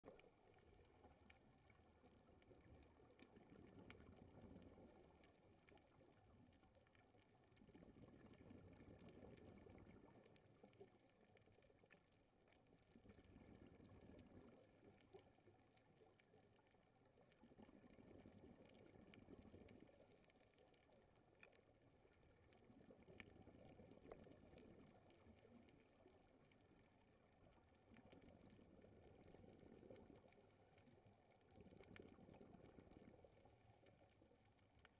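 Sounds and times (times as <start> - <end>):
diver's exhaled bubbles underwater: 0.0 - 34.9
faint clicks: 0.0 - 34.9.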